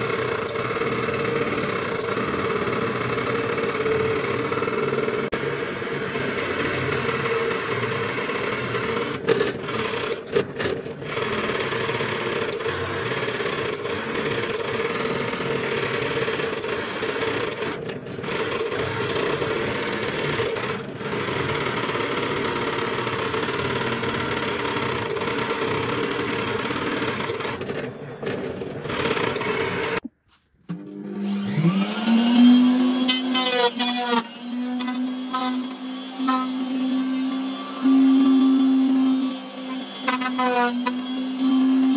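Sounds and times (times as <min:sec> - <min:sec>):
drill press boring into wood: 0:00.0 - 0:30.0, 0:31.2 - 0:41.9.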